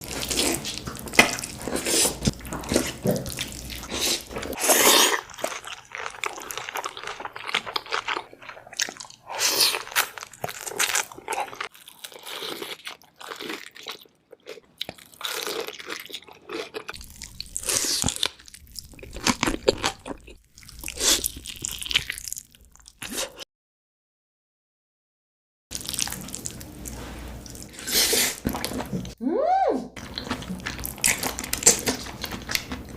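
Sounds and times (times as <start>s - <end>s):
crunchy chewing of food: 0.0s - 23.4s, 25.7s - 29.2s, 30.0s - 32.9s.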